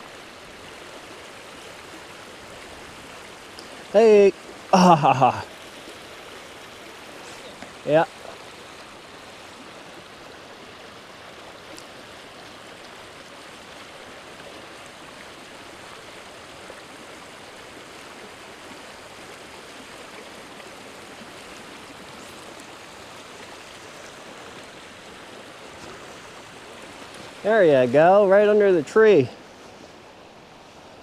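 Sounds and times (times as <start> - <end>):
creek water flowing: 0.0 - 31.0.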